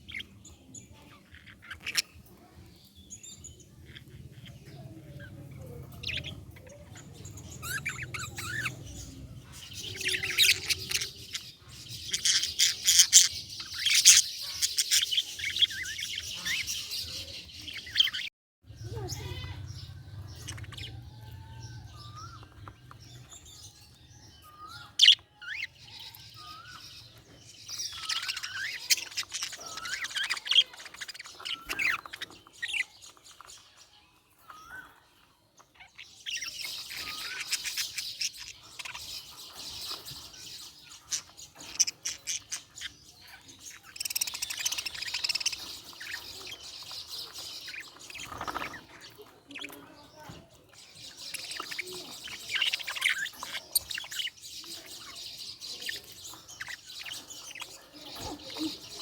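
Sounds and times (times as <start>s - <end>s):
budgerigar chirping and warbling: 0.0s - 2.3s, 3.3s - 33.5s, 35.6s - 59.0s.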